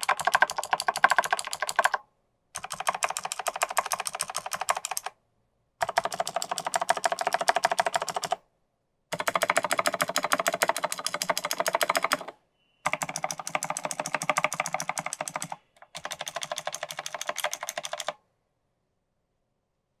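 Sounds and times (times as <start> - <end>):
mechanical keyboard clicky typing: 0.0 - 2.0, 2.6 - 5.1, 5.8 - 8.4, 9.1 - 18.2.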